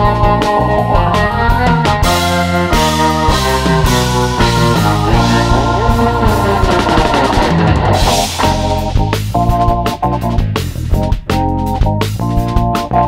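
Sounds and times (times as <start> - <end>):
drum kit beating: 0.0 - 13.0
rock music: 0.0 - 13.0.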